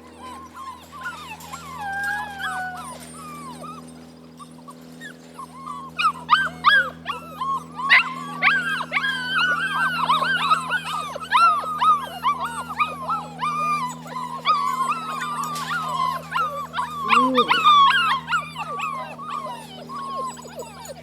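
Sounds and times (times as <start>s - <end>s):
puppies howling and yipping: 0.0s - 21.0s.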